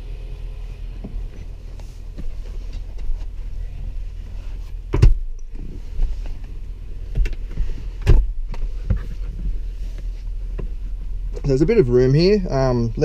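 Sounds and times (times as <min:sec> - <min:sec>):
steady low rumble: 0:00.0 - 0:13.0
rustling: 0:00.7 - 0:11.6.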